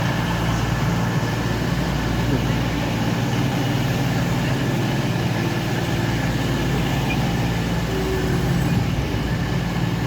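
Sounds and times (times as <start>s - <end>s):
diesel engines idling: 0.0s - 10.0s.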